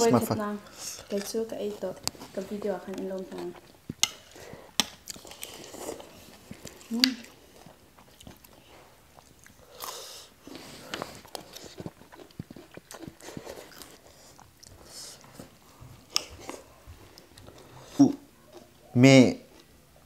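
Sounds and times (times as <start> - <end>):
people chewing food: 0.0 - 20.0.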